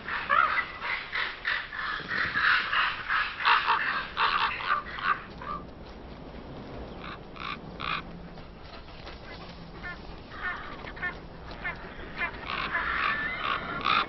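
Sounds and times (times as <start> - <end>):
ravens croaking and calling: 0.0 - 5.7, 6.9 - 14.0.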